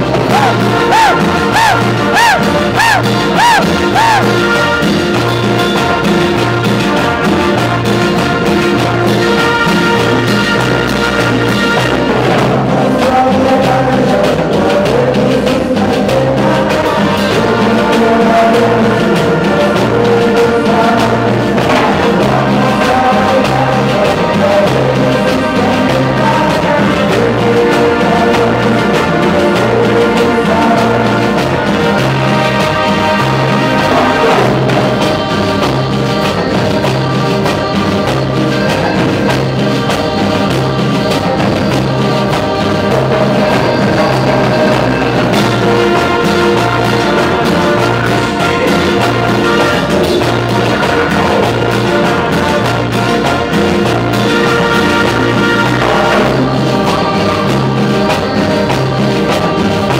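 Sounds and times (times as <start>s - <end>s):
trumpets: 0.0s - 15.3s, 16.1s - 59.9s
bass line: 0.0s - 59.9s
percussion: 0.0s - 59.9s.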